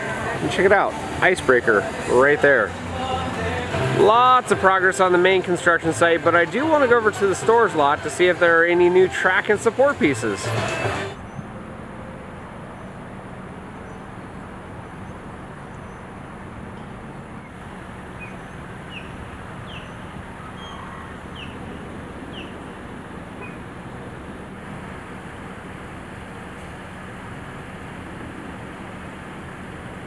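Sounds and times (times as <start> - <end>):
constant low hum: 0.0 - 30.0.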